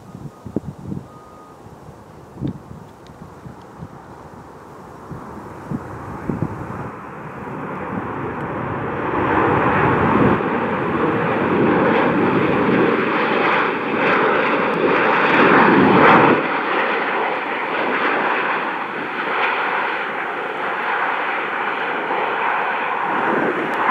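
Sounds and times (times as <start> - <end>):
jet airliner engines: 0.0 - 23.9.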